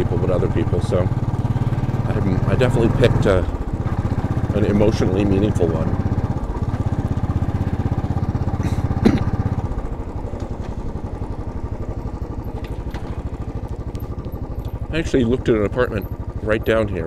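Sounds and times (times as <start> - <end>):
motorcycle engine thumping: 0.0 - 17.0.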